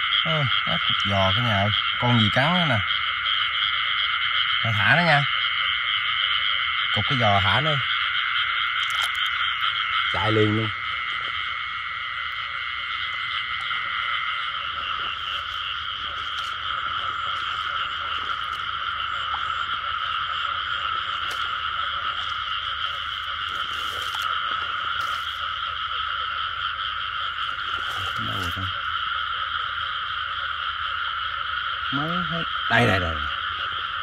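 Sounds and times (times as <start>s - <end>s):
frog chorus: 0.0s - 34.0s.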